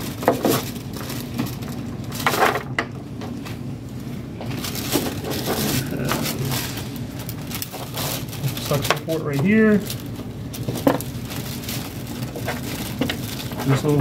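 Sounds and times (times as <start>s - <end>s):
plastic sheeting crinkling: 0.0s - 2.7s, 3.9s - 14.0s
steady low hum: 0.0s - 14.0s.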